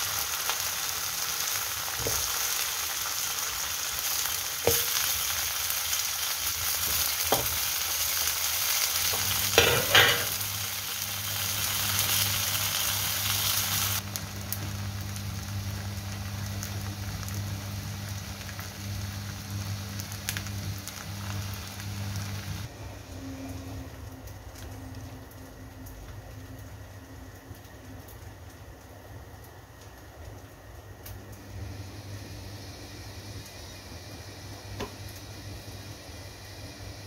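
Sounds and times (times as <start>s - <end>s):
cake sizzling in oil: 0.0s - 37.0s.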